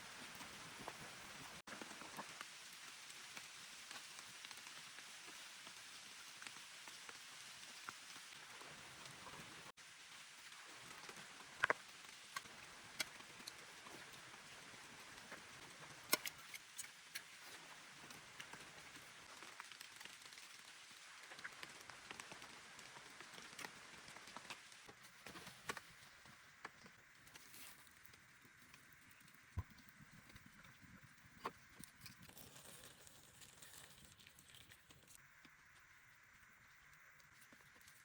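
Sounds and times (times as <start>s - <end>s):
rain falling steadily: 0.0s - 38.0s.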